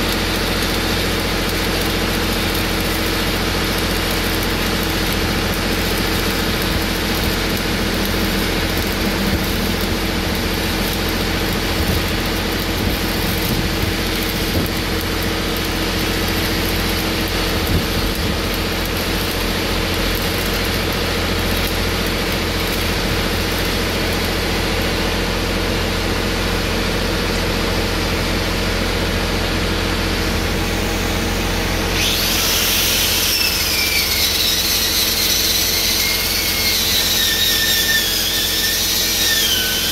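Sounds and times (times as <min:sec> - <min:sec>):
welding arc noise: 0:00.0 - 0:27.0, 0:30.1 - 0:39.9
angle grinder whine: 0:00.1 - 0:23.8, 0:30.4 - 0:39.9.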